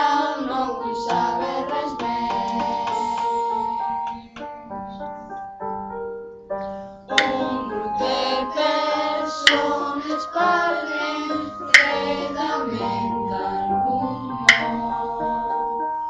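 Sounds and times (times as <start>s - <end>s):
song with singing voices: 0.0s - 4.9s, 7.1s - 16.0s.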